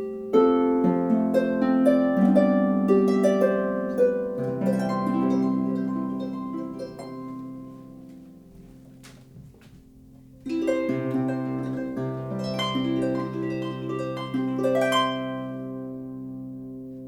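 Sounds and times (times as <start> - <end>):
harp plucked notes: 0.0 - 9.3, 9.9 - 16.9.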